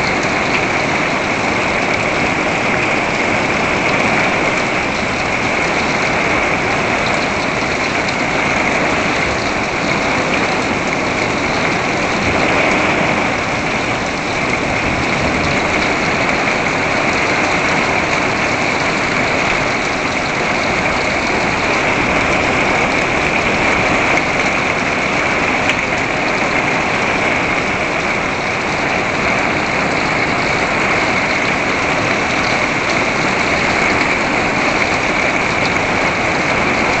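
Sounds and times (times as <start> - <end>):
heavy rain on wooden deck: 0.0 - 37.0.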